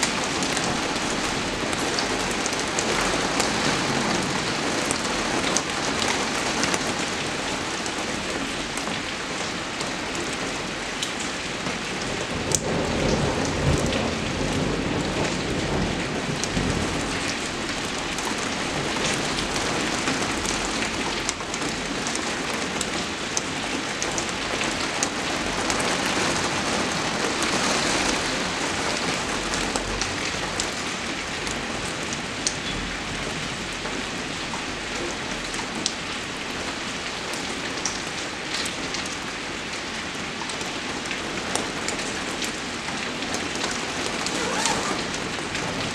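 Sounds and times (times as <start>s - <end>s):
heavy rain: 0.0s - 45.9s.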